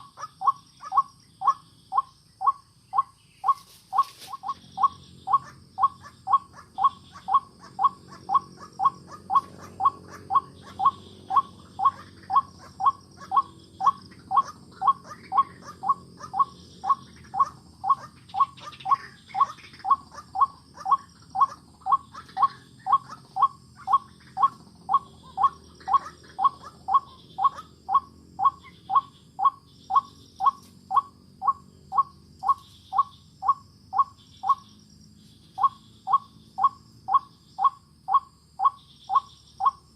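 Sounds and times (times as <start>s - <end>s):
high insect trilling: 0.0s - 39.9s.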